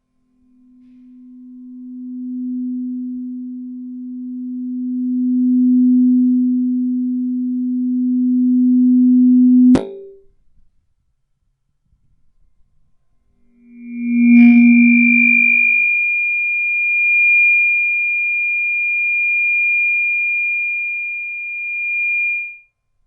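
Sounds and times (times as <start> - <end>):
low microphone feedback tone: 0.4 - 10.3, 13.4 - 22.6.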